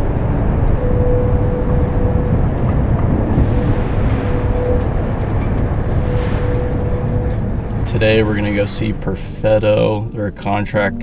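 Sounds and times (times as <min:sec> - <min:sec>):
heavy construction equipment rumble: 0:00.0 - 0:11.0
mid-pitched tone: 0:00.0 - 0:11.0.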